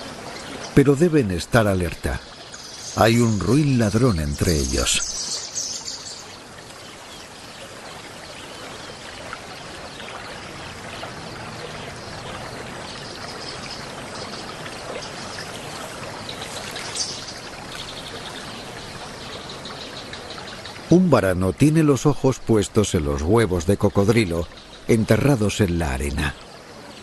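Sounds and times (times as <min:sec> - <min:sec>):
river water running: 0:00.0 - 0:27.0.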